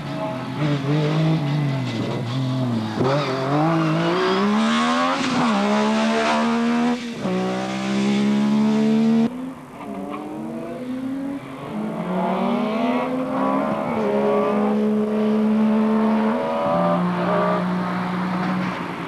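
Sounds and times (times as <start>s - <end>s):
rally car engine revving: 0.0s - 18.9s.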